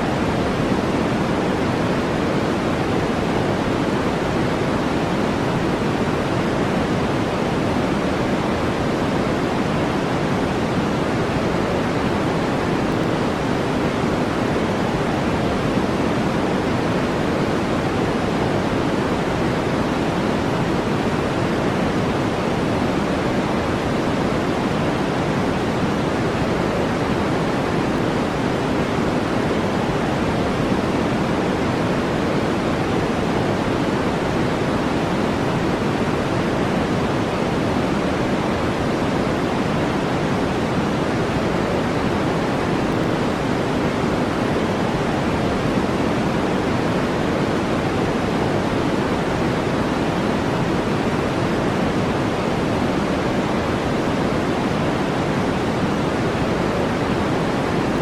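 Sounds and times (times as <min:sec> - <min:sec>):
deep steady hiss noise: 0:00.0 - 0:58.0.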